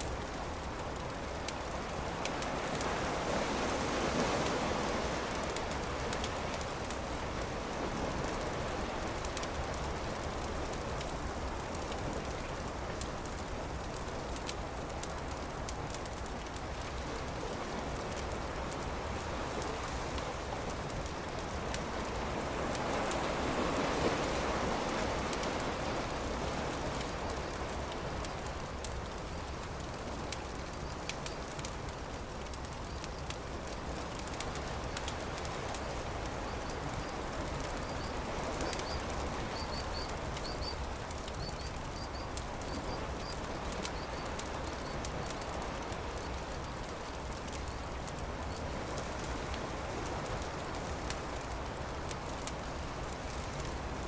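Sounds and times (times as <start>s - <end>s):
campfire crackling and popping: 0.0s - 54.0s
surf waves: 0.0s - 54.0s.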